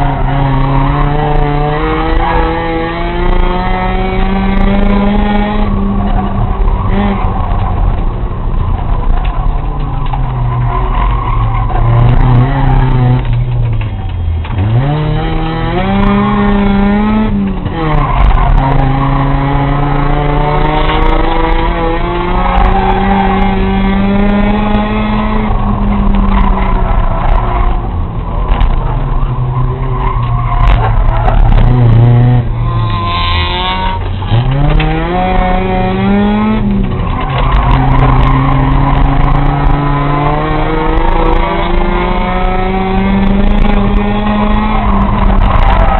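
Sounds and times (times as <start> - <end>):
race car engine at full throttle: 0.0 - 45.9.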